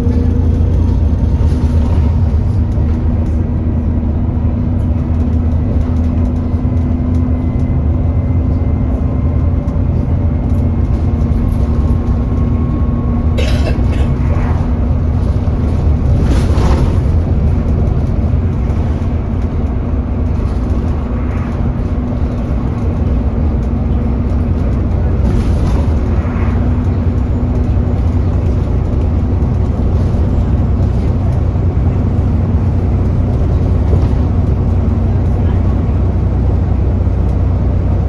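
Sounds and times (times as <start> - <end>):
bus engine low drone: 0.0 - 38.0.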